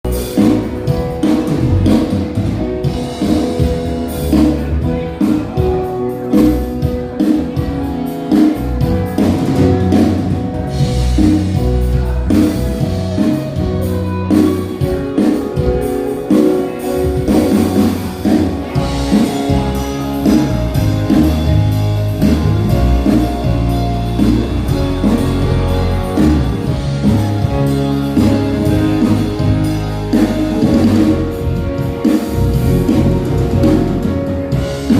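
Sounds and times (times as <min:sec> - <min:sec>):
drum kit beat: 0:00.0 - 0:34.9
guitar playing: 0:00.0 - 0:34.9.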